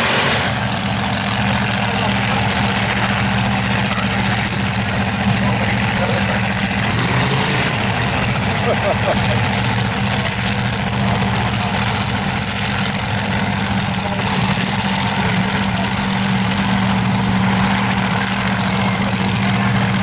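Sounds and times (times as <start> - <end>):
engine idling rumble: 0.0 - 20.0.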